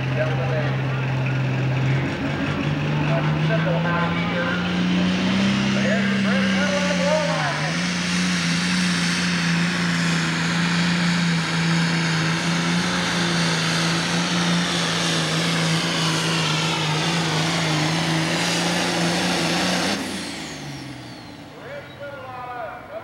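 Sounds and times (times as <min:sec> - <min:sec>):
diesel tractor engine at high revs: 0:00.0 - 0:23.0.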